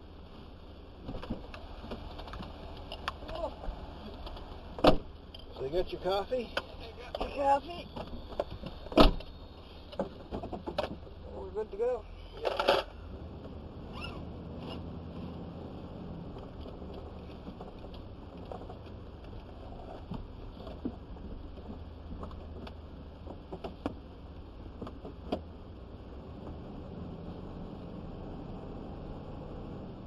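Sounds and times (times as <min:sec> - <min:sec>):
truck engine and road rumble: 0:00.0 - 0:30.0.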